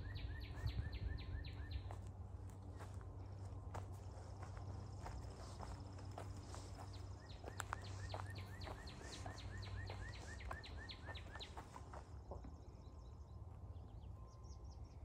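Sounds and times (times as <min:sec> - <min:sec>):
songbird singing: 0:00.0 - 0:15.0
steady low hum: 0:00.0 - 0:15.0.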